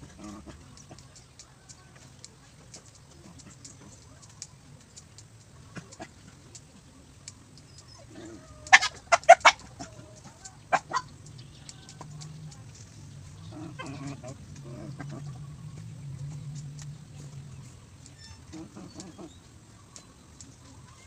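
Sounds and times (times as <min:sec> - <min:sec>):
chicken clucking: 0:00.0 - 0:21.0.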